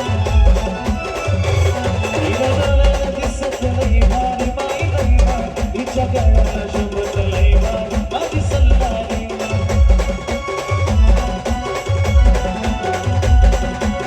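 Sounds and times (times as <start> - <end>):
live folk band music: 0.0 - 14.0
sharp clicking percussion: 0.0 - 14.0.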